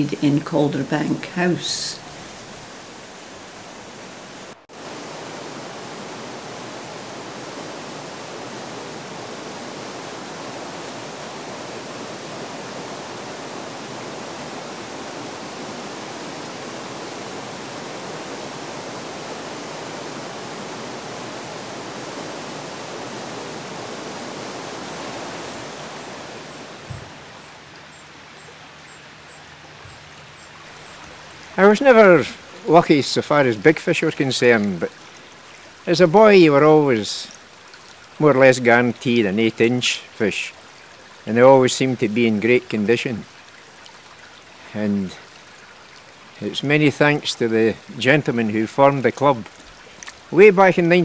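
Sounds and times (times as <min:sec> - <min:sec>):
stream rippling over stones: 0:00.0 - 0:51.0.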